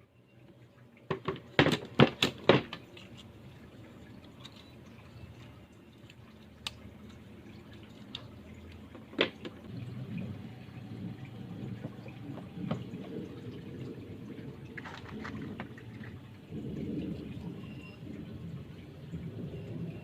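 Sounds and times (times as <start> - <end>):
low background rumble: 3.4 - 20.0.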